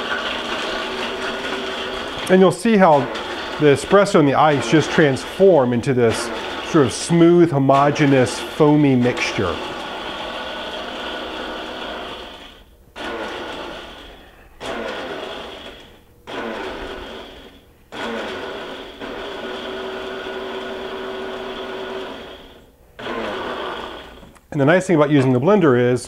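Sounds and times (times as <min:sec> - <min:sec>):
blender crushing ice: 0:00.0 - 0:24.4.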